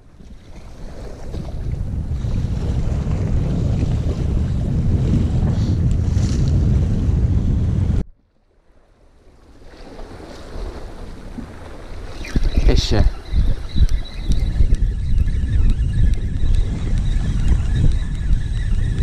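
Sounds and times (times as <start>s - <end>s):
wind rumble on microphone: 0.0s - 8.2s, 9.4s - 19.0s
sea surf against rocks: 0.0s - 19.0s.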